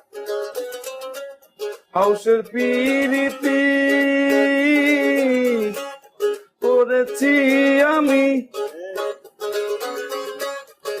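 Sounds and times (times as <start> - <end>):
rhythmic instrumental backing: 0.0 - 11.0.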